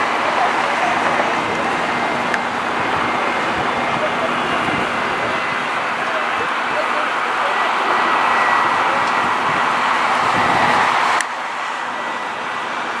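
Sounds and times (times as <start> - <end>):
high engine whine: 0.0 - 13.0
jet engines rushing: 0.0 - 13.0.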